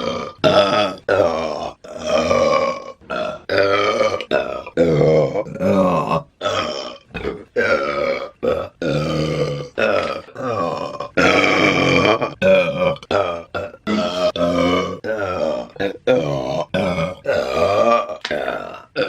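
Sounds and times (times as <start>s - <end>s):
woman burping loudly: 0.0s - 19.0s.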